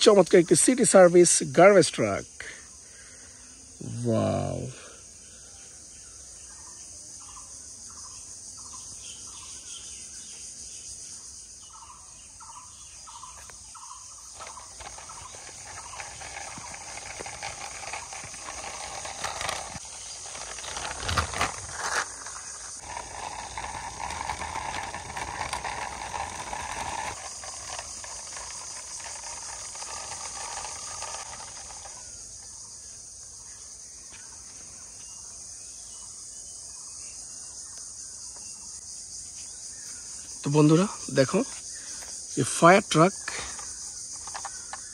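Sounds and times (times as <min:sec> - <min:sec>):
high-pitched insect chorus: 0:00.0 - 0:44.9
short insect chirps: 0:00.0 - 0:44.9.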